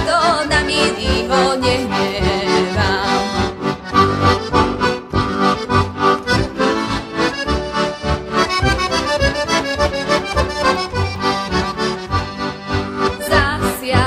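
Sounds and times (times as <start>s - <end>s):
button accordion folk tune: 0.0s - 14.0s.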